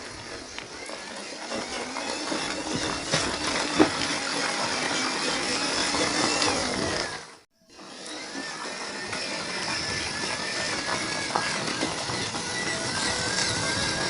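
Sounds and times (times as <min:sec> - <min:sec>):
toy car motor whining: 0:00.0 - 0:14.0.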